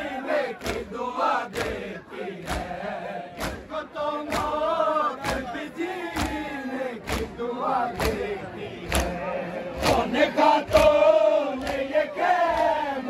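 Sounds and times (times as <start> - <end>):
crowd singing a mourning chant: 0.0 - 13.0.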